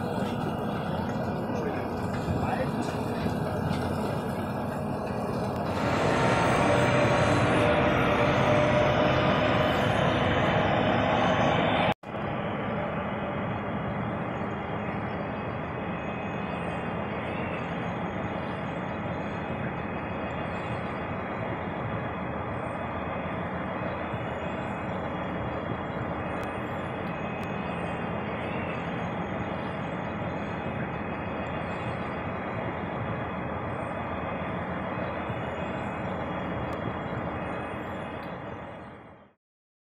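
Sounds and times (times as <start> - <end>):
harvester mechanical rumble: 0.0 - 39.3
faint high whine: 5.6 - 39.4.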